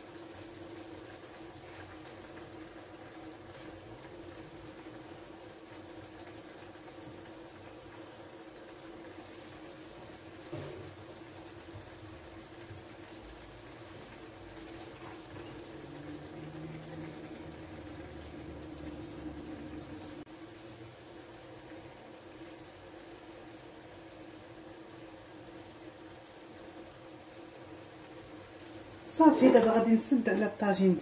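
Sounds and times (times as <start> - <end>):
sauce simmering with bubbling hiss: 0.0 - 31.0.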